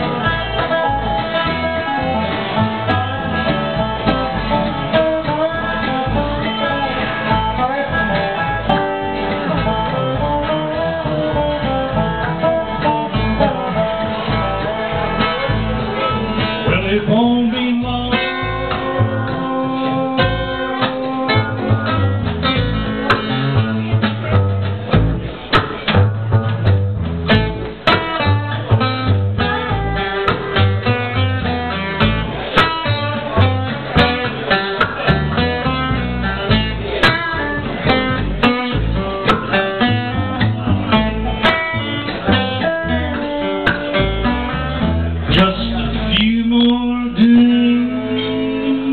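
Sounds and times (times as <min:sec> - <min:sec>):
acoustic guitar: 0:00.0 - 0:48.9
mandolin: 0:00.0 - 0:48.9
upright bass: 0:00.0 - 0:48.9.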